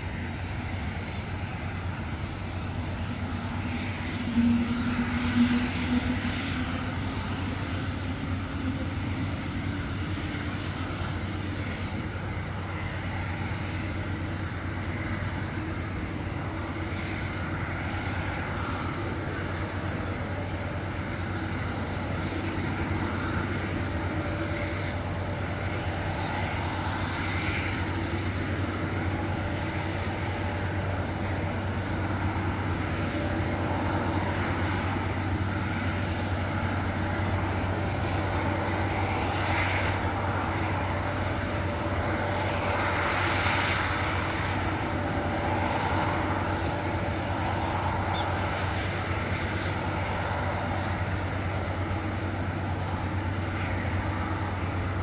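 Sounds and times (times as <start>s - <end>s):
helicopter engine and rotors running: 0.0s - 55.0s.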